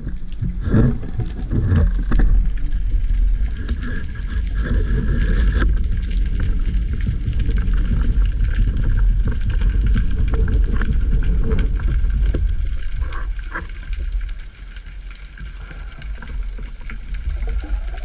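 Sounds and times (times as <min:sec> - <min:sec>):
small clicks and crackles: 0:00.0 - 0:18.0
underwater rumble of moving water: 0:00.0 - 0:18.0.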